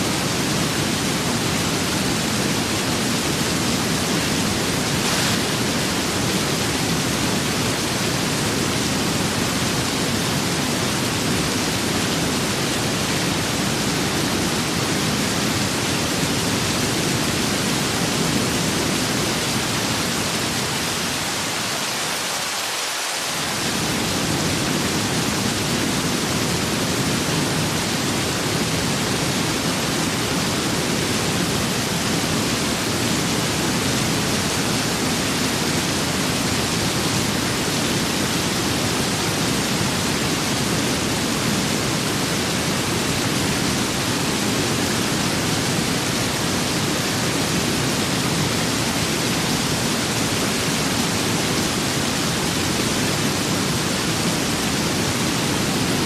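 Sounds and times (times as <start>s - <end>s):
rain and wind hiss: 0.0s - 56.0s.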